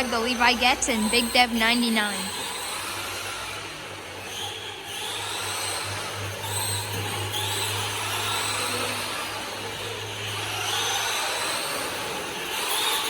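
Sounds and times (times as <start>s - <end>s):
electric rc car motors whining: 2.2s - 13.0s.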